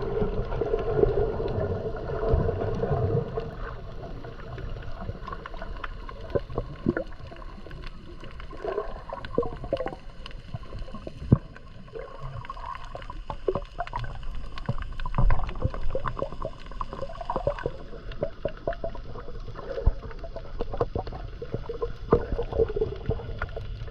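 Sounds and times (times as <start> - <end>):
water gurgling and sloshing: 0.0 - 23.9.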